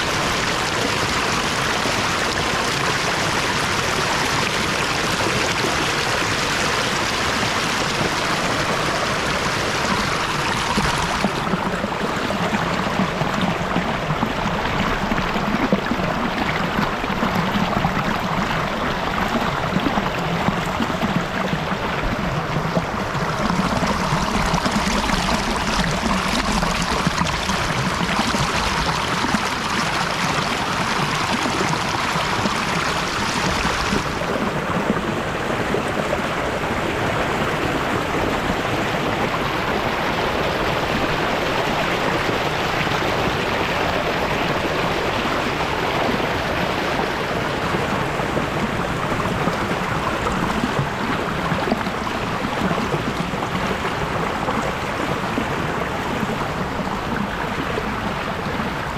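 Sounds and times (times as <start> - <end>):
waterfall and stream rushing: 0.0 - 58.9.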